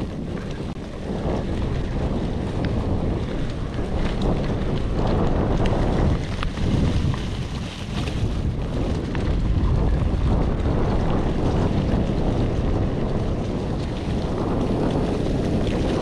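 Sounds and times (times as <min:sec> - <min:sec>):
bike rattling: 0:00.0 - 0:16.0
tyres rumbling on trail: 0:00.0 - 0:16.0
wind buffeting microphone: 0:00.0 - 0:16.0.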